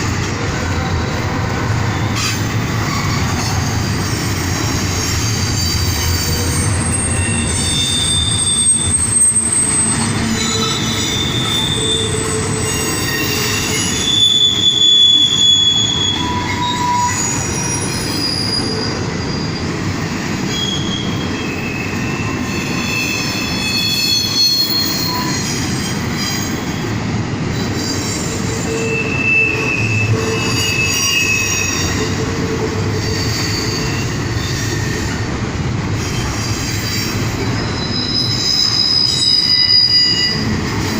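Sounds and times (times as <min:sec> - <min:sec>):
train wheels rumbling on rail: 0:00.0 - 0:40.9
wheels squealing: 0:01.9 - 0:19.8, 0:20.4 - 0:26.6, 0:27.7 - 0:32.2, 0:36.0 - 0:40.9.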